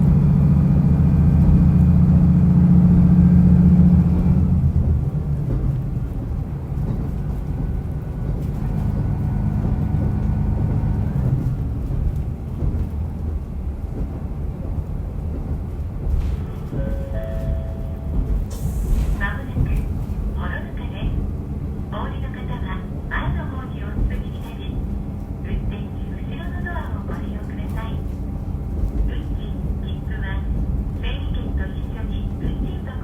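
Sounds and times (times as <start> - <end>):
railcar diesel engine pulling: 0.0 - 33.0.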